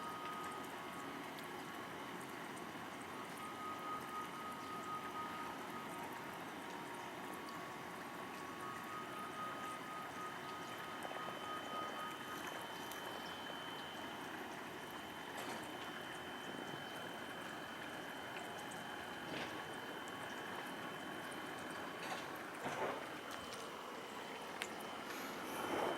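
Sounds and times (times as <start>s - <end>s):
running water: 0.0s - 25.9s.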